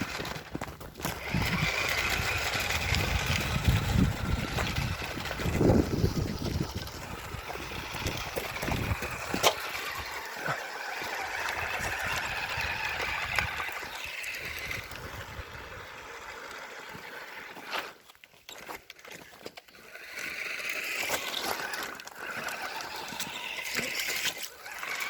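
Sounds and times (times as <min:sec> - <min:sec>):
toy car motor whine: 0:00.0 - 0:25.0.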